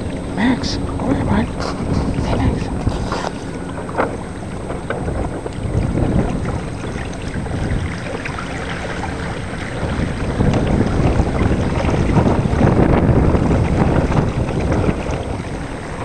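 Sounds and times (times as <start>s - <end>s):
water moving along hulls: 0.0s - 16.0s
wind buffeting microphone: 0.0s - 16.0s.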